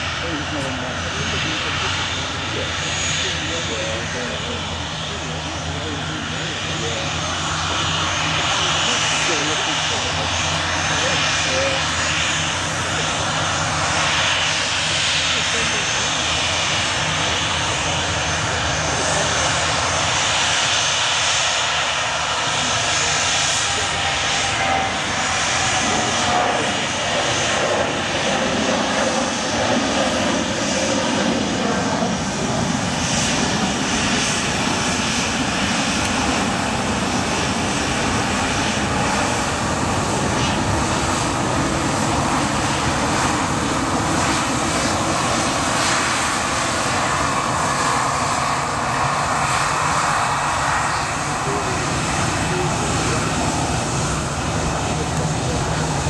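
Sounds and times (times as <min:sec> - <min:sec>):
jet engines at taxi power: 0:00.0 - 0:56.0.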